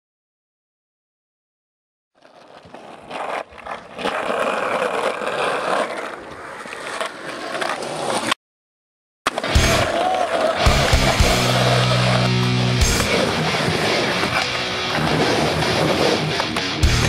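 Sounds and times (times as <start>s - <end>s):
skateboard clicks and knocks: 2.2s - 8.4s, 9.3s - 17.0s
skateboard wheels rolling on concrete: 2.2s - 8.4s, 9.3s - 17.0s.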